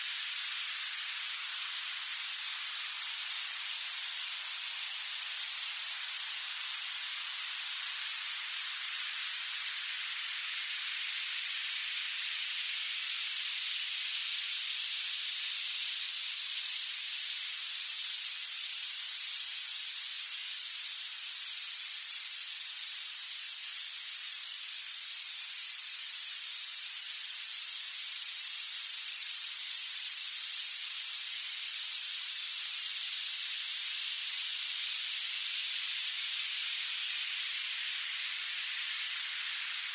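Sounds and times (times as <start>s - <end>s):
high-pitched hiss: 0.0s - 39.9s.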